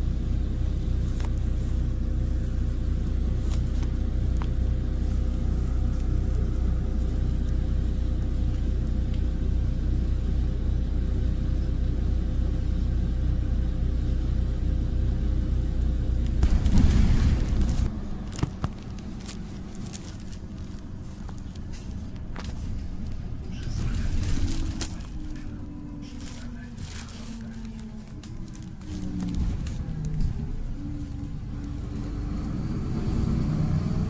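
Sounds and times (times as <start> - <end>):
tram hum and rumble: 0.0 - 34.0.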